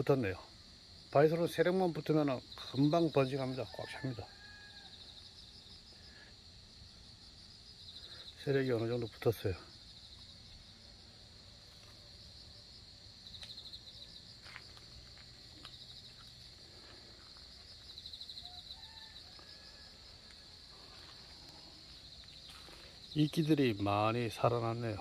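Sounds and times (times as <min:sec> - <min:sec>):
insect chorus drone: 0:00.0 - 0:25.0
pulsed insect trills: 0:00.0 - 0:25.0.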